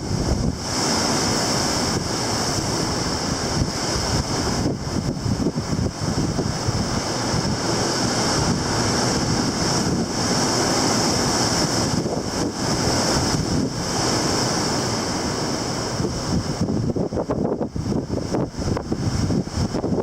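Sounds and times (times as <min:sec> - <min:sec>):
surf breaking on shore: 0:00.0 - 0:20.0
wind buffeting microphone: 0:00.0 - 0:20.0.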